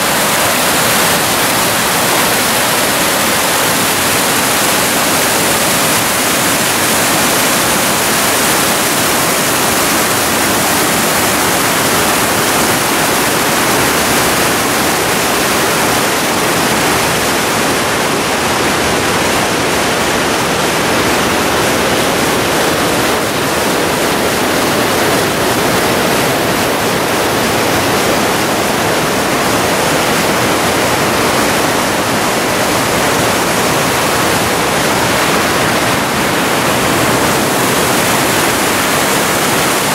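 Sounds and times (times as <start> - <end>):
whitewater rushing over boulders: 0.0 - 39.9.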